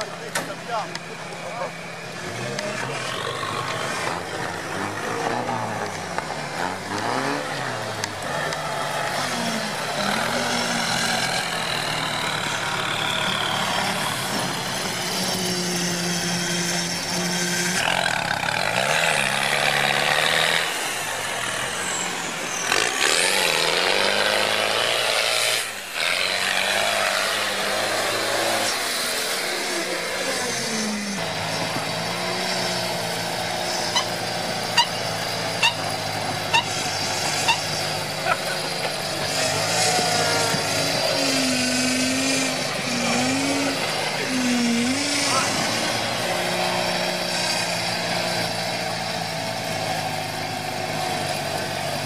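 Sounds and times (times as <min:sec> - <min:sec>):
off-road vehicle engines revving: 0:00.0 - 0:52.0.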